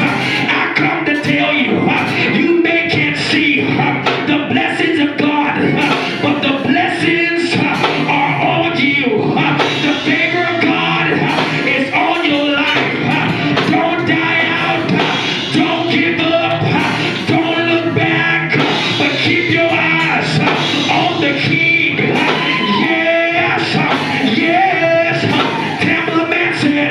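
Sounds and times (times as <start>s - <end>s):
gospel music: 0.0s - 26.9s
voices singing: 0.0s - 26.9s.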